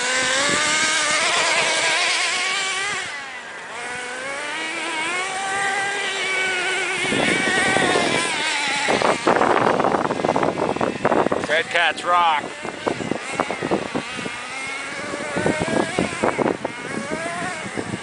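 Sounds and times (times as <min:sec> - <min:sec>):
toy truck motor revving: 0:00.0 - 0:18.0.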